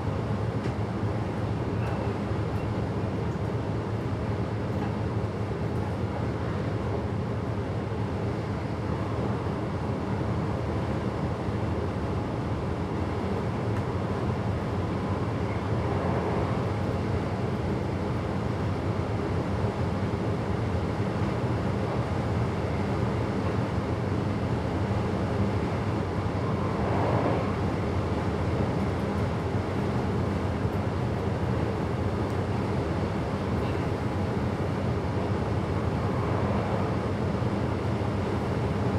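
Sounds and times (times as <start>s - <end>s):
train running rumble: 0.0s - 38.9s.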